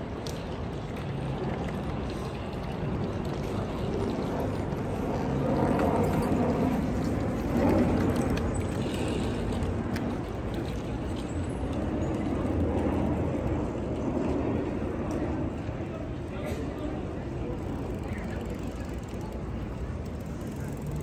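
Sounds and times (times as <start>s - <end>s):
passing vehicles: 0.0s - 21.0s.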